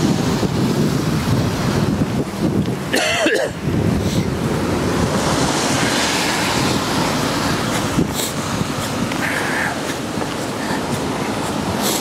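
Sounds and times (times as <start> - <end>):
cars passing on wet road: 0.0 - 12.0
wind rushing over microphone: 0.0 - 12.0.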